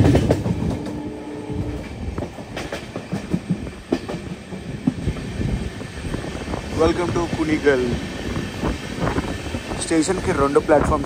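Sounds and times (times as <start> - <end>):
train wheels rumbling: 0.0 - 11.0
wheels knocking on rail joints: 0.0 - 11.0.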